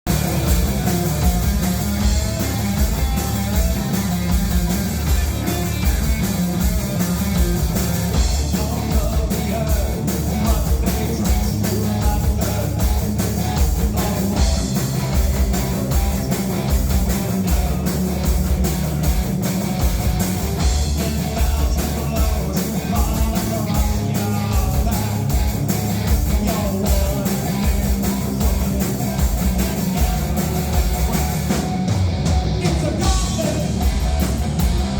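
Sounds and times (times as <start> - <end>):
live rock band playing: 0.0 - 34.9
pounding drum kit: 0.0 - 34.9.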